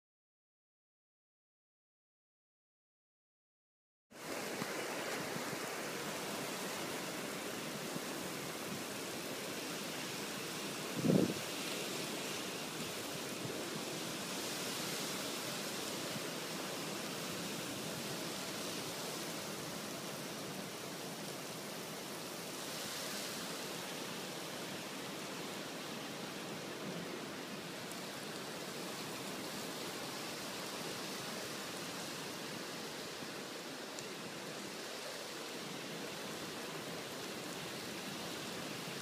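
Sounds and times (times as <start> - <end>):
heavy rain hissing: 4.2 - 39.0.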